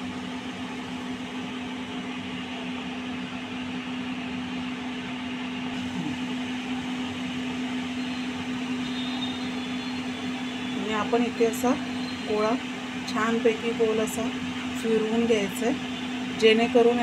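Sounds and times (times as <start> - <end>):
steady motor hum: 0.0 - 17.0.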